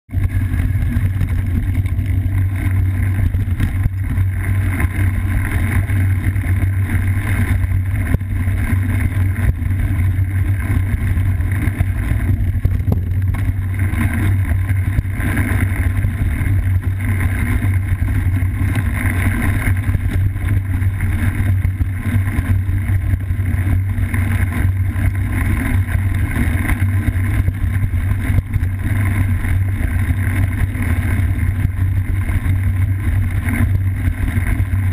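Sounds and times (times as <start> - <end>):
bike rolling over dirt: 0.1 - 34.9
wind on microphone: 0.1 - 34.9.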